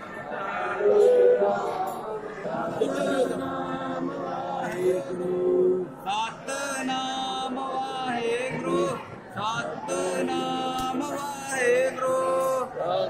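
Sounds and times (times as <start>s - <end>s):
man singing a chant: 0.7s - 13.0s.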